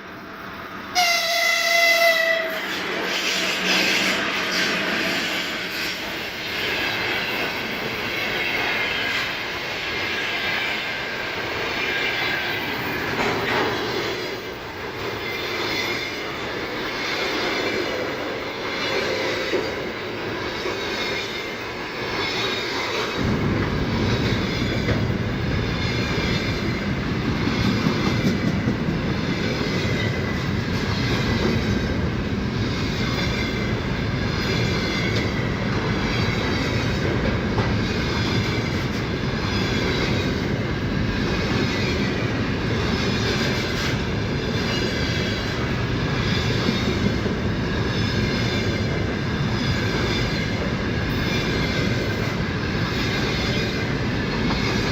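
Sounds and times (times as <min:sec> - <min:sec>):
freight train passing: 0:00.0 - 0:54.9.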